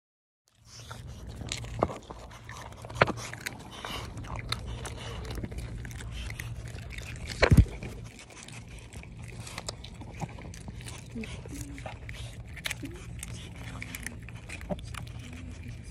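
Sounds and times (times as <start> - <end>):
steady low hum: 0.5 - 15.9.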